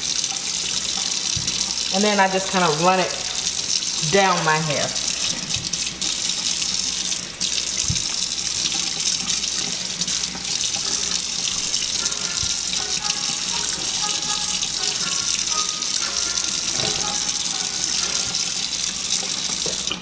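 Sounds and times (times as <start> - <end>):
water running from sink tap: 0.0 - 20.0.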